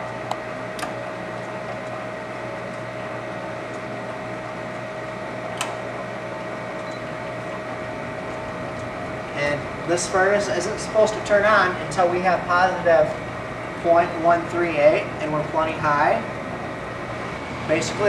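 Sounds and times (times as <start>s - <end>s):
furnace draft motor whining: 0.0s - 18.0s.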